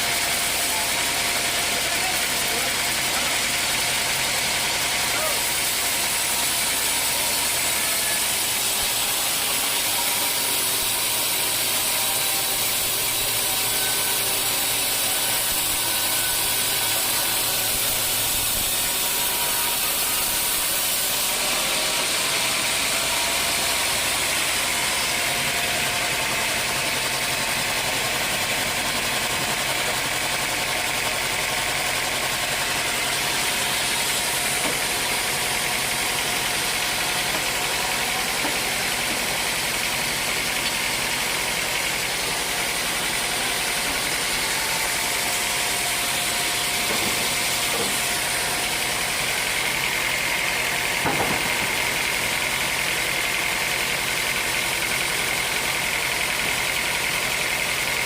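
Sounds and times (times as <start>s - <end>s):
bandsaw mill running: 0.0s - 58.0s.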